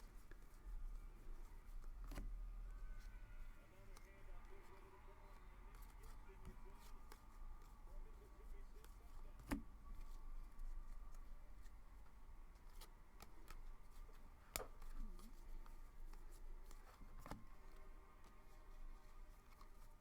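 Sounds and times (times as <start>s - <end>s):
cards and wrappers rustling: 0.0s - 20.0s.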